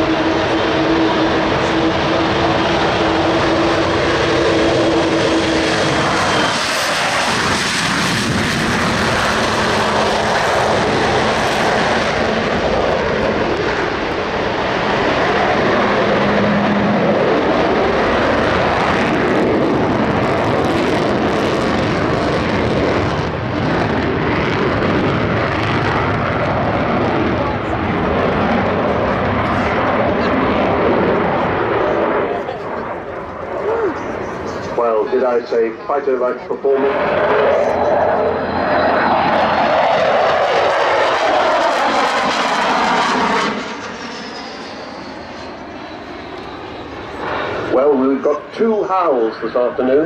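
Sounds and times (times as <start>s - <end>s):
jet roar: 0.0s - 50.0s.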